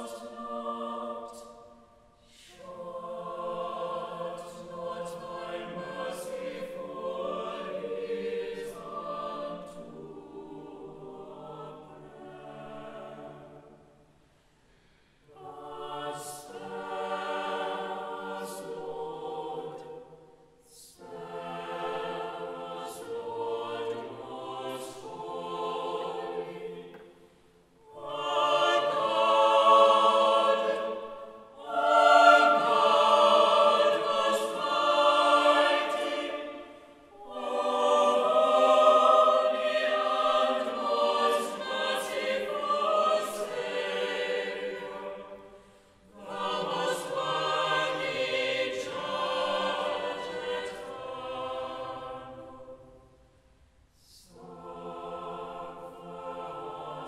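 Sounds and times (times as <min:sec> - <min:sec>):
choir singing: 0:00.0 - 0:14.2, 0:15.2 - 0:53.3, 0:54.0 - 0:57.0.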